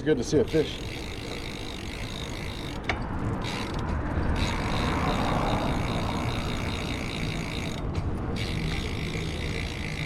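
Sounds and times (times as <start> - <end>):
bicycle tyres rolling on road: 0.0 - 10.0.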